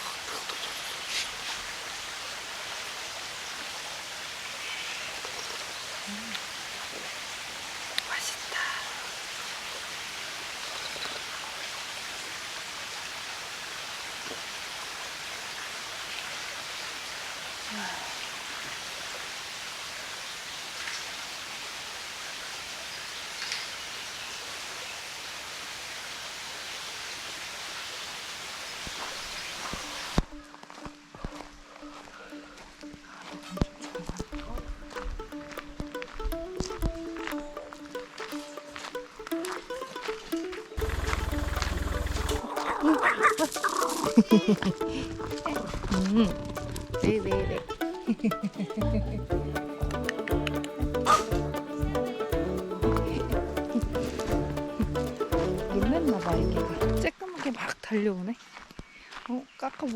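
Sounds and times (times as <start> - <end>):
stream rushing: 0.0 - 32.3, 33.0 - 48.8, 49.4 - 57.1.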